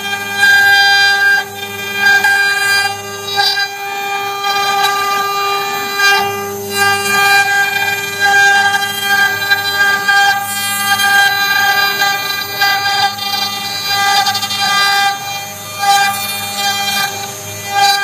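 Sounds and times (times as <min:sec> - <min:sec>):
low carving hum: 0:00.0 - 0:18.0
router spindle whine: 0:00.0 - 0:18.0.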